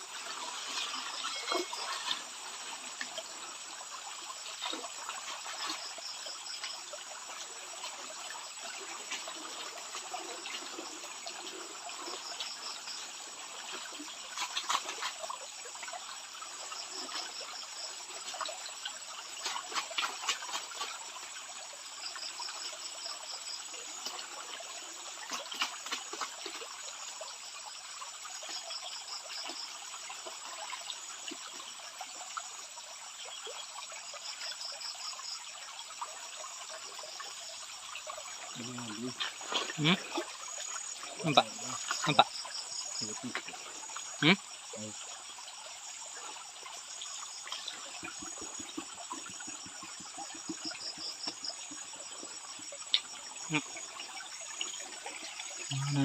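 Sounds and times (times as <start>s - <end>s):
stream water trickling: 0.0s - 56.0s
faint high insect chirring: 0.1s - 56.0s.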